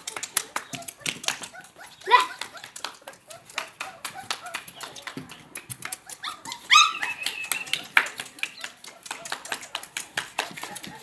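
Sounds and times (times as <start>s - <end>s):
puppy yelp: 0.3s - 5.1s, 5.7s - 11.0s.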